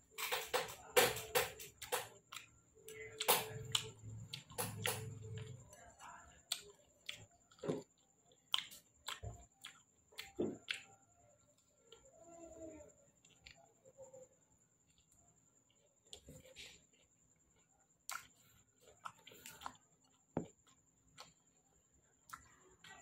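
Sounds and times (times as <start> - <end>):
person chewing fruit wetly: 0.1 - 12.3, 13.1 - 23.0.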